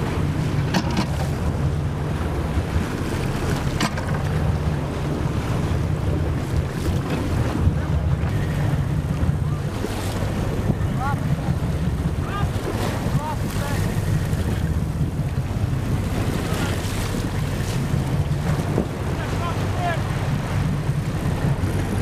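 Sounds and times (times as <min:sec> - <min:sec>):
water washing and splashing: 0:00.0 - 0:22.0
wind buffeting microphone: 0:00.0 - 0:22.0.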